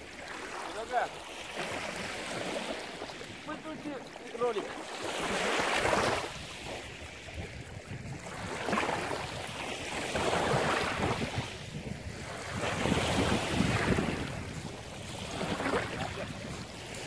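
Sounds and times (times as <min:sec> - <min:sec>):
waves washing on pebble shore: 0:00.0 - 0:07.4, 0:08.4 - 0:17.0.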